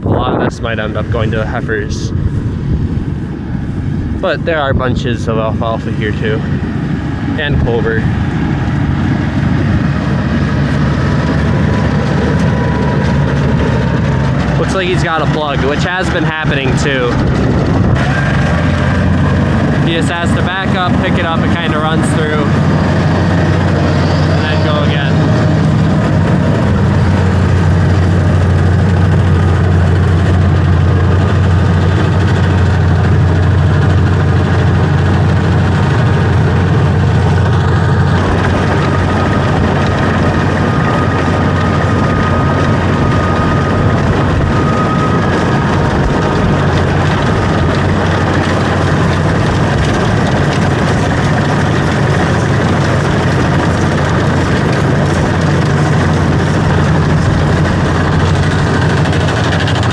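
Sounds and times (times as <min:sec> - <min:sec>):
heavy engine running steadily: 0:00.0 - 0:59.9.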